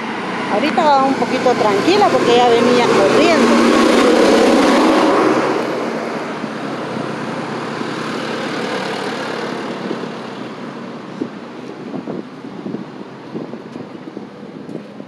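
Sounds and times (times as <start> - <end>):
car passing: 0.0 - 14.6.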